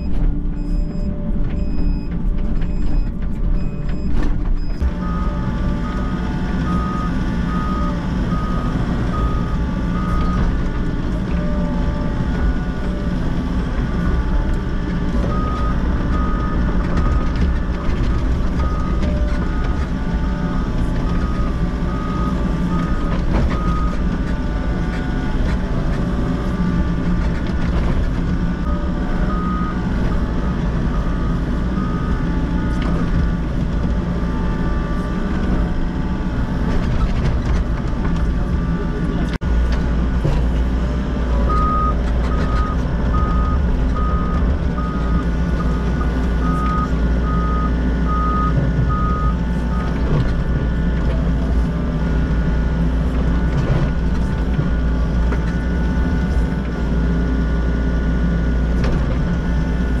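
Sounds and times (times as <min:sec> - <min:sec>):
excavator engine and hydraulics: 0:00.0 - 1:00.0.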